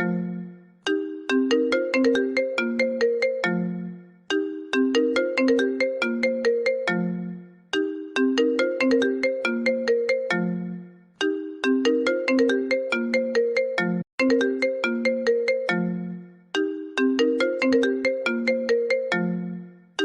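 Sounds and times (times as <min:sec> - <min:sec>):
phone ringtone melody: 0:00.0 - 0:20.0.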